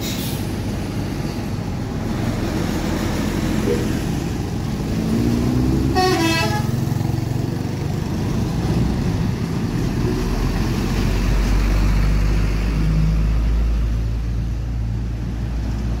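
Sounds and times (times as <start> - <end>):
bus driving past: 0.0 - 16.0
diesel truck driving past: 0.0 - 16.0.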